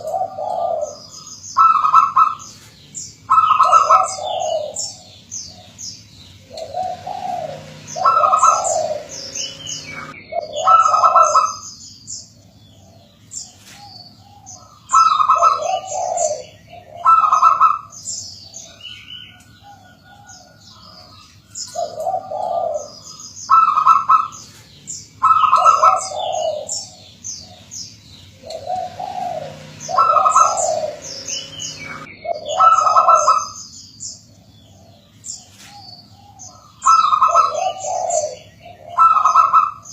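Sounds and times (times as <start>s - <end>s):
dove cooing: 0.0s - 11.7s, 12.4s - 33.6s, 34.3s - 39.9s.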